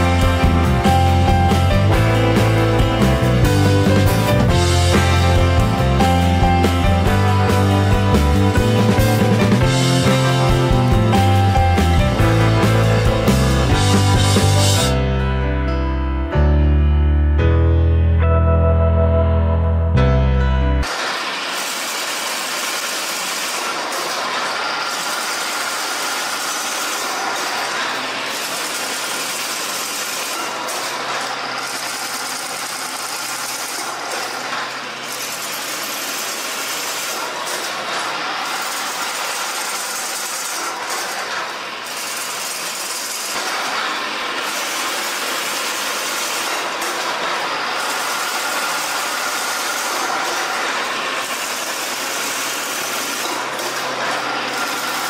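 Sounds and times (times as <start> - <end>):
fence weaving machine running: 0.0 - 15.2, 20.8 - 55.0.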